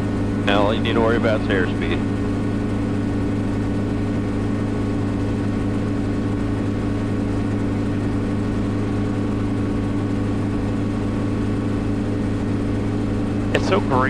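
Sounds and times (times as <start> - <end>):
helicopter engine and rotors drone: 0.0 - 14.0.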